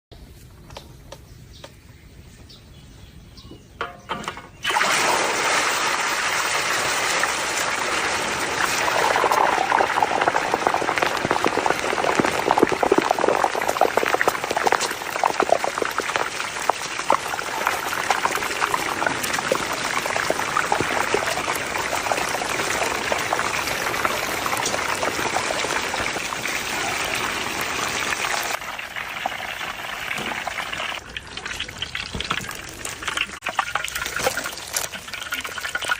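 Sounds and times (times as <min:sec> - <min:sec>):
water pouring: 0:04.5 - 0:35.9.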